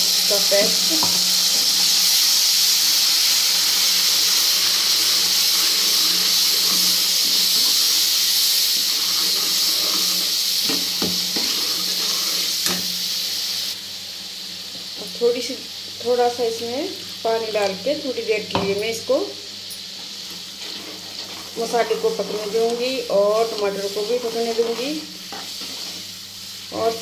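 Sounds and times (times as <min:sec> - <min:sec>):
paste sizzling in hot oil: 0:00.0 - 0:27.0.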